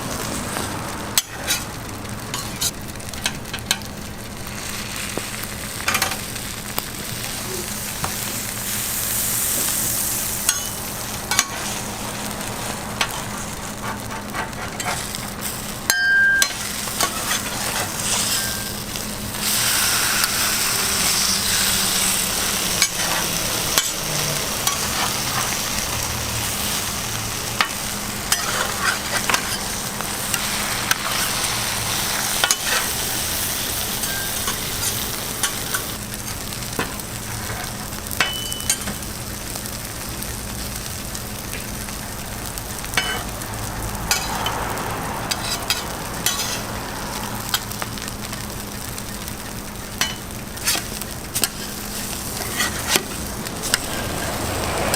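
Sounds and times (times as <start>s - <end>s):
food sizzling: 0.0s - 54.9s.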